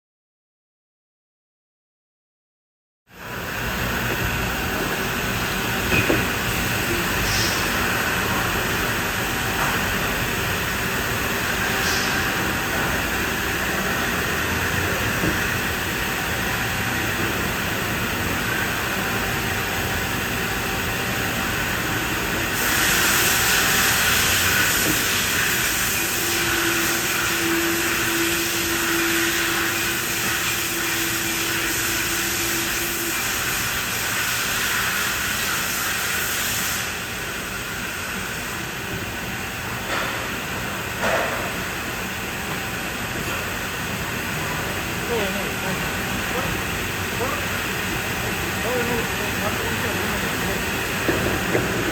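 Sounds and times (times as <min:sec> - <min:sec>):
machine running with hiss: 0:03.1 - 0:51.9.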